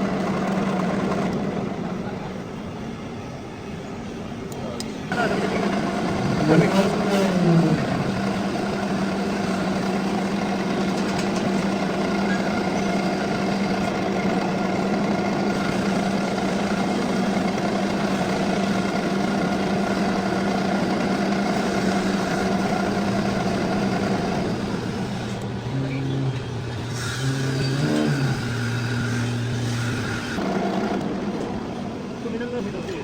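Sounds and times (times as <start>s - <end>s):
metal lathe running: 0.0s - 33.0s.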